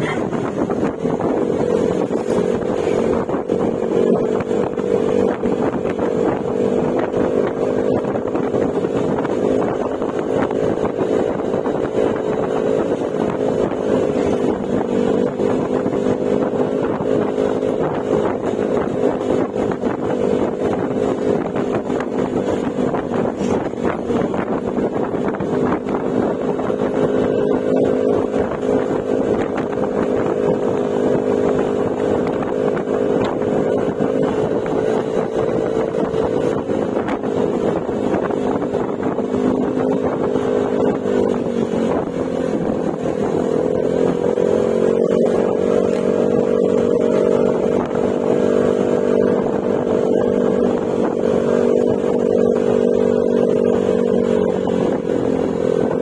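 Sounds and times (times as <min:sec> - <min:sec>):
scooter engine running: 0:00.0 - 0:56.0.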